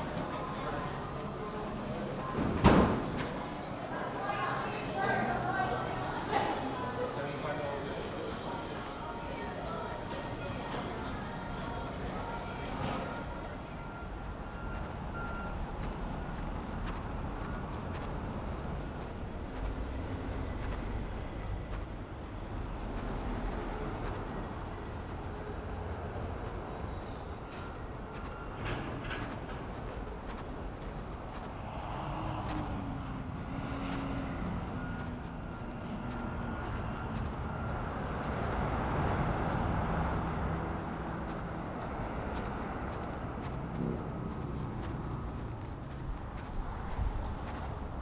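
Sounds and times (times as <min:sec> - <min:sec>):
airport ambience rumble and hum: 0:00.0 - 0:48.0.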